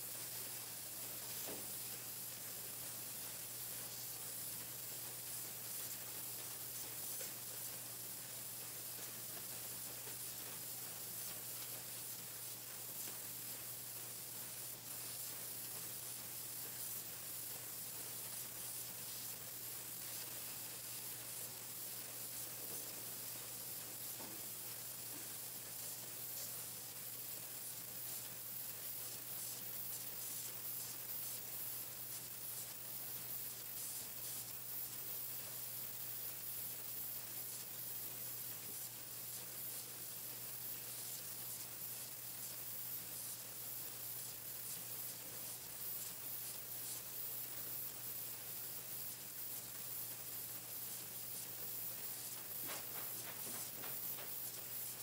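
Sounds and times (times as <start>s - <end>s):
machine hissing: 0.0s - 55.0s.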